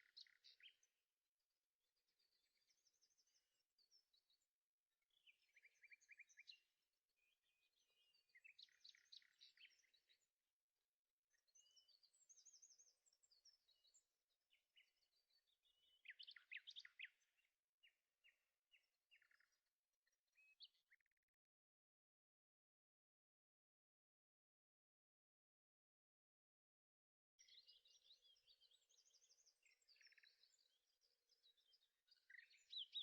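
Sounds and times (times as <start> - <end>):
faint songbirds singing: 0.0 - 22.5, 26.6 - 33.0.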